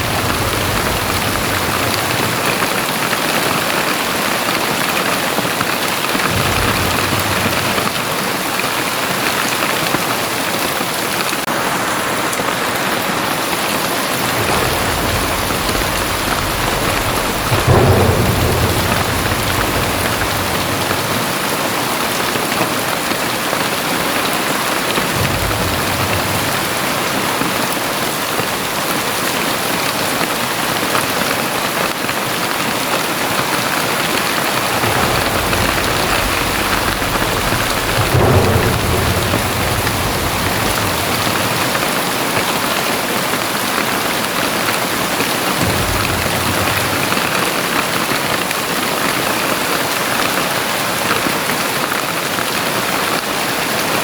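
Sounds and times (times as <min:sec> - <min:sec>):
thunder rumbling: 0:00.0 - 0:31.6, 0:32.4 - 0:54.0
heavy rain pouring: 0:00.0 - 0:54.0.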